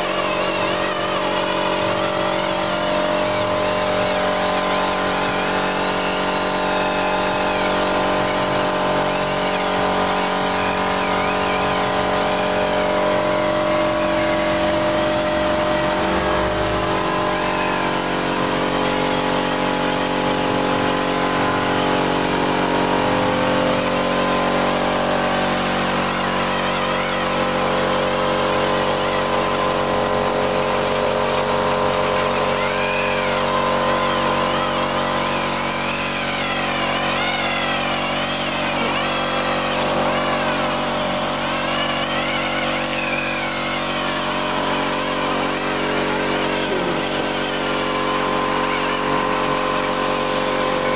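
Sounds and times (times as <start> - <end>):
air polisher whine: 0.0 - 50.9.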